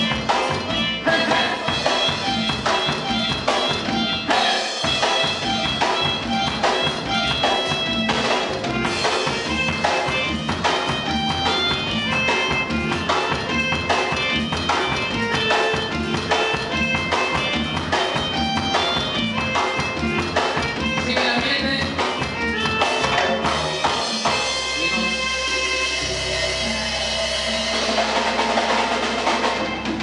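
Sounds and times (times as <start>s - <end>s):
drum kit: 0.0s - 30.0s
electronic keyboards: 0.0s - 30.0s.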